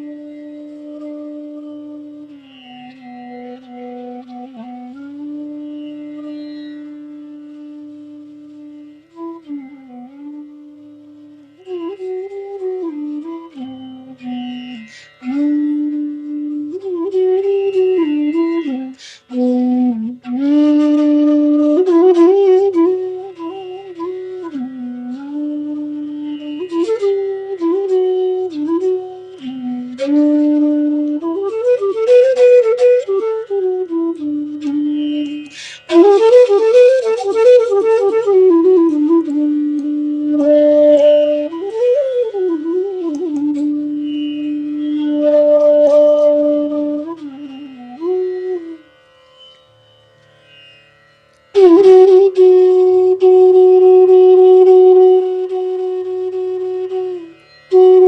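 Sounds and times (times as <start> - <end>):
bamboo flute melody: 0.0 - 58.0.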